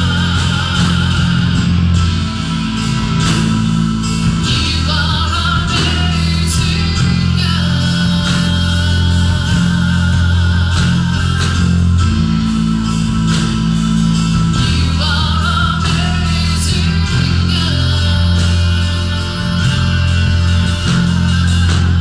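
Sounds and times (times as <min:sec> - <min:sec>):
guitars: 0:00.0 - 0:22.0
keyboard: 0:00.0 - 0:22.0
person singing: 0:00.0 - 0:22.0
sustained bass notes: 0:00.0 - 0:22.0.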